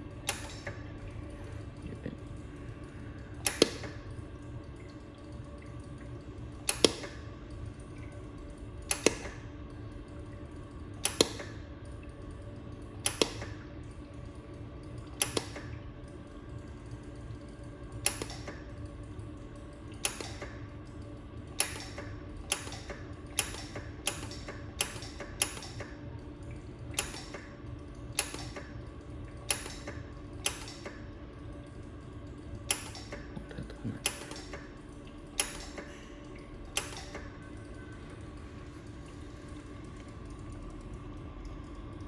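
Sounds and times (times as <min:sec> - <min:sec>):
machine humming: 0:00.0 - 0:42.0.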